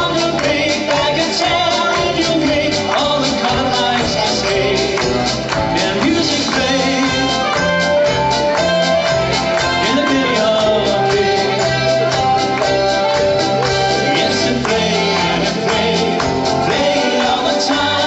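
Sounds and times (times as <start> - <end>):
man singing: 0.0 - 7.7, 9.6 - 12.3, 13.9 - 18.0
drums: 0.0 - 18.0
electric guitar: 0.0 - 18.0.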